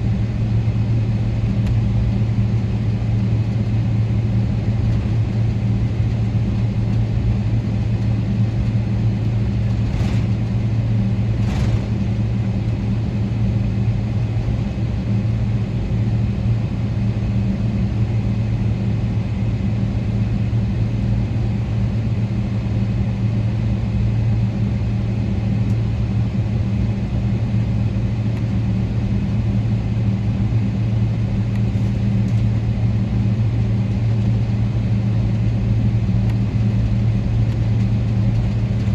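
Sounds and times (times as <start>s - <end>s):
airplane engines droning in cabin: 0.0s - 38.9s.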